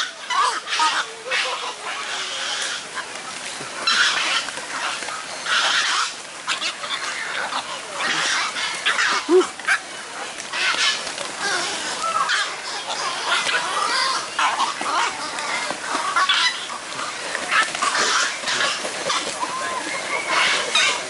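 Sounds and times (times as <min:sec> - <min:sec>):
bird noise: 0:00.0 - 0:21.0
storks flapping wings: 0:01.4 - 0:21.0.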